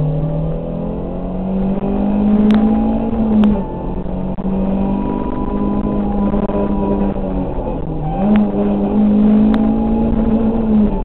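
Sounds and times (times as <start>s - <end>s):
rally car engine at full throttle: 0.0s - 11.0s.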